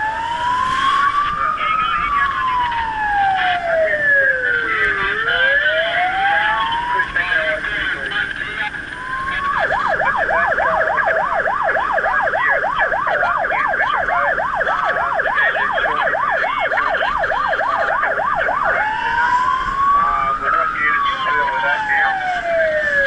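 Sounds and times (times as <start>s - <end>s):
fire truck siren wailing and yelping: 0.0s - 23.0s.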